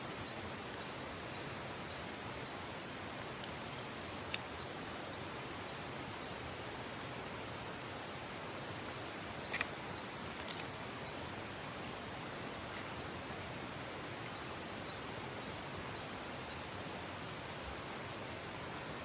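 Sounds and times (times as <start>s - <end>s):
campfire wood crackling: 0.0s - 15.8s
steady rushing hiss: 0.0s - 19.0s.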